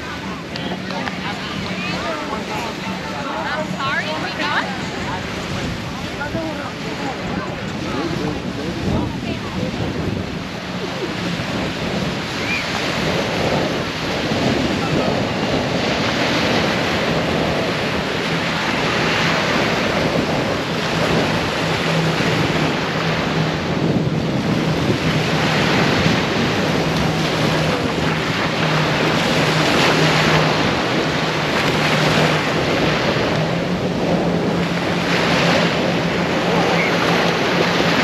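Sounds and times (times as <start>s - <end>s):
small waves breaking on beach: 0.0s - 38.0s
wind buffeting microphone: 0.0s - 38.0s.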